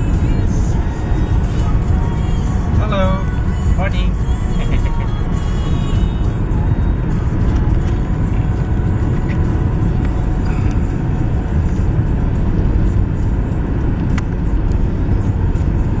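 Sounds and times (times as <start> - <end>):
car cabin road and engine noise: 0.0 - 16.0.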